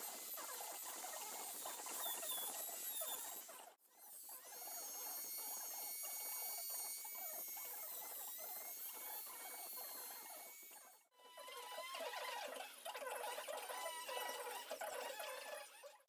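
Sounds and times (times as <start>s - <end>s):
rotary carving tool whining: 0.0s - 15.9s.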